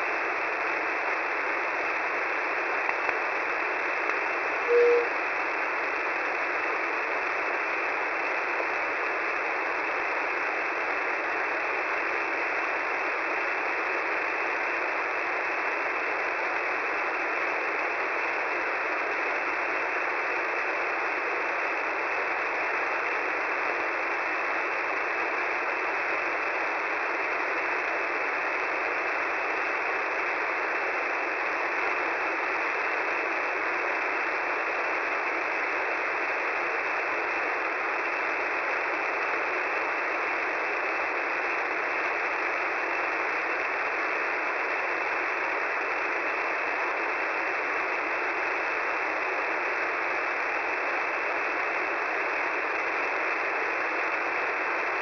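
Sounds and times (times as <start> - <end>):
shortwave radio band noise hiss: 0.0 - 55.0.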